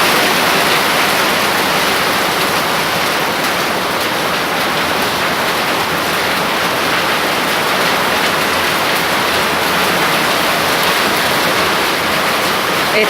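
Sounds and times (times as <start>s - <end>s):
hailstones ticking on surfaces: 0.0s - 13.0s
heavy rain downpour: 0.0s - 13.0s.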